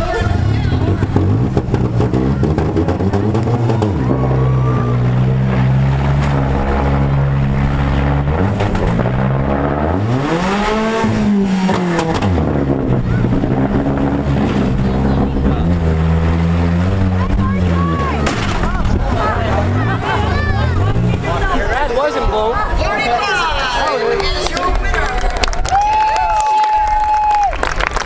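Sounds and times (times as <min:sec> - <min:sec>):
engine revving: 0:00.0 - 0:22.9
car engines running hard: 0:00.0 - 0:26.1.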